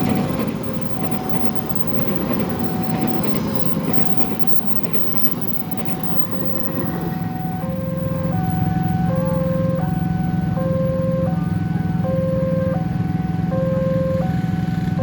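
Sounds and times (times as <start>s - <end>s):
train wheels clattering on rails: 0.0s - 12.0s
two-note crossing alarm chime: 0.0s - 14.4s.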